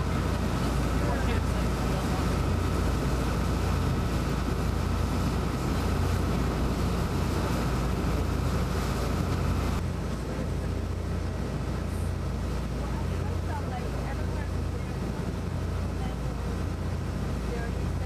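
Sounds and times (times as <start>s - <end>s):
boat engine running: 0.0s - 18.0s
water rushing past: 0.0s - 18.0s
wind buffeting microphone: 0.0s - 18.0s.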